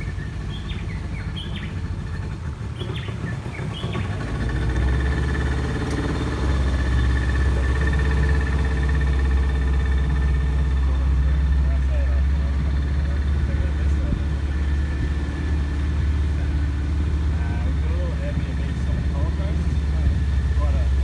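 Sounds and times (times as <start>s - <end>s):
birds chirping: 0.0s - 21.0s
boat engine running: 0.0s - 21.0s.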